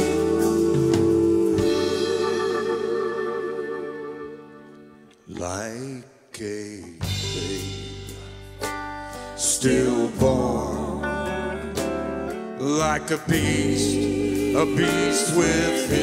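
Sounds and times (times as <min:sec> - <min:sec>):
live band playing: 0:00.0 - 0:05.0, 0:07.0 - 0:16.0
lead voice singing: 0:00.0 - 0:08.0, 0:09.4 - 0:12.0, 0:12.6 - 0:16.0.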